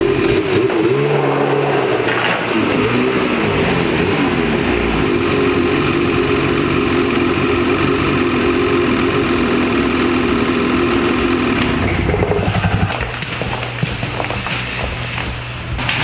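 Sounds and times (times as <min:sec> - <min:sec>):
snowmobile engine revving: 0:00.0 - 0:15.6.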